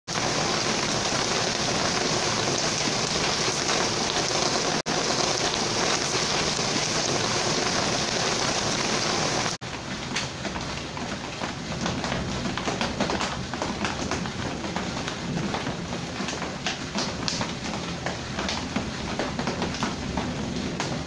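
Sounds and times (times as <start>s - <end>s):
heavy rain falling: 0.1s - 21.0s
light rain taps: 0.2s - 21.0s.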